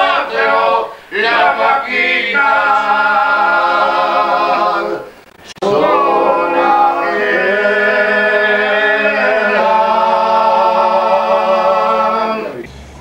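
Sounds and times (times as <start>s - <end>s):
men singing unaccompanied: 0.0s - 12.7s.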